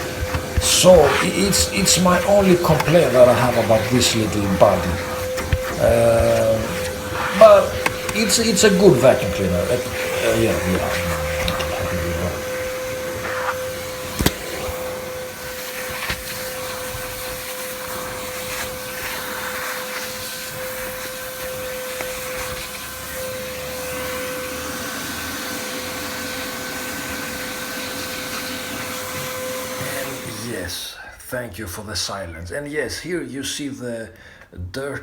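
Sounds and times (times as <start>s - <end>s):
vacuum cleaner whining: 0.0s - 30.8s.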